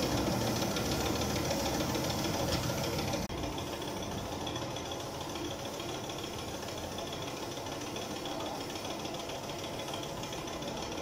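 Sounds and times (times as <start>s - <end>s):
air compressor running with low knock: 0.0s - 11.0s
spray gun hissing: 0.0s - 11.0s.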